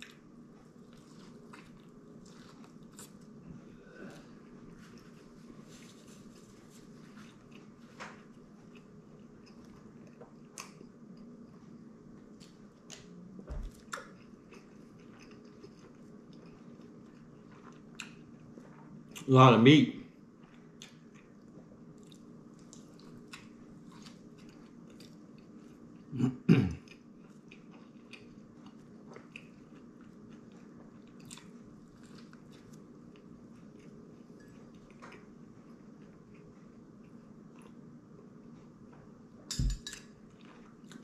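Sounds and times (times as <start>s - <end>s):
man chewing food: 0.0s - 19.3s, 20.1s - 26.1s, 26.7s - 41.0s.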